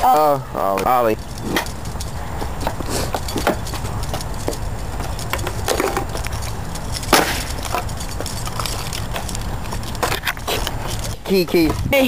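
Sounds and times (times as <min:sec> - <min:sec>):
skateboard clattering on concrete: 0:00.0 - 0:12.0.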